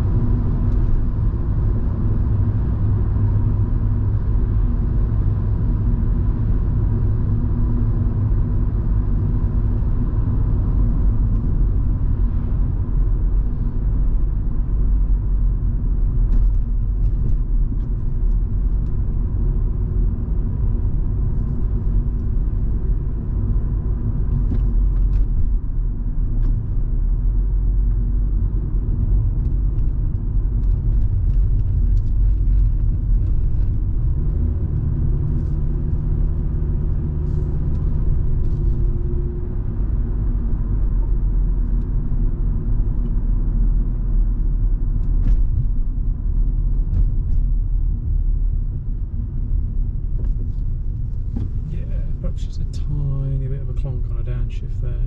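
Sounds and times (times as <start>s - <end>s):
car engine running: 0.0s - 55.0s
tyre and road rumble: 0.0s - 55.0s.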